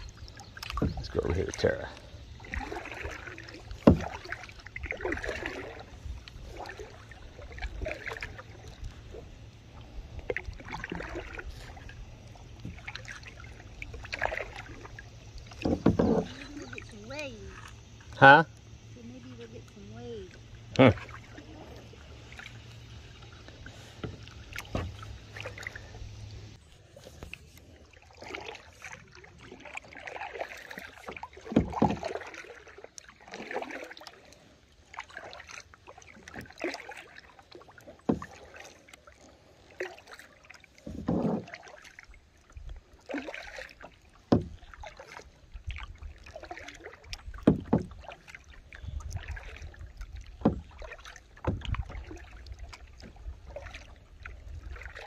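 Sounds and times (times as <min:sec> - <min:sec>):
paddle splashing water: 0:00.0 - 0:55.0.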